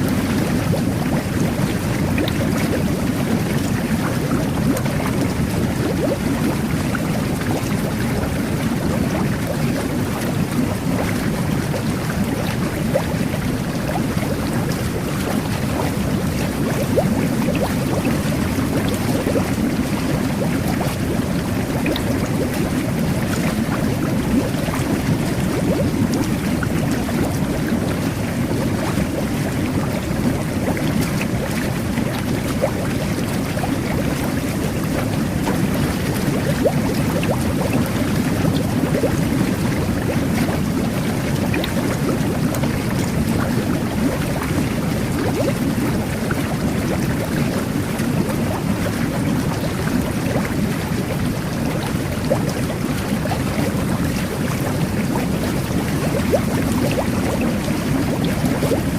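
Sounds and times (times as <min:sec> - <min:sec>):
bubbles bursting crackles: 0:00.0 - 0:58.9
water churning and bubbling: 0:00.0 - 0:58.9.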